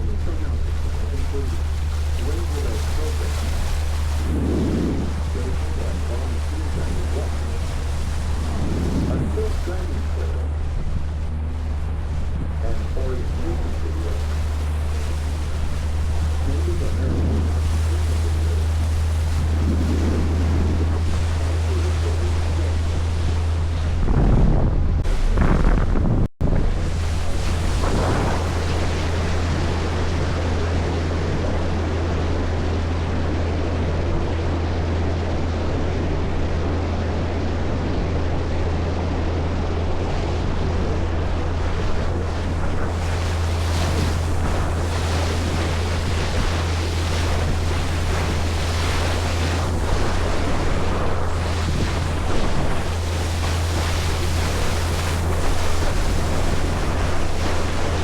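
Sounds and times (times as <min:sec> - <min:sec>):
low engine drone: 0:00.0 - 0:58.0
waves and rushing water: 0:00.0 - 0:58.0
wind buffeting microphone: 0:00.0 - 0:58.0.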